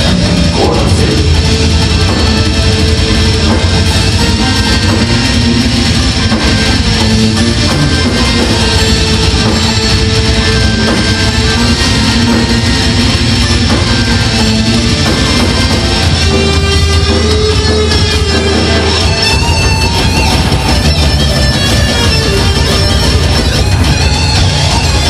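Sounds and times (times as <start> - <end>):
death metal band playing live: 0.0 - 25.0.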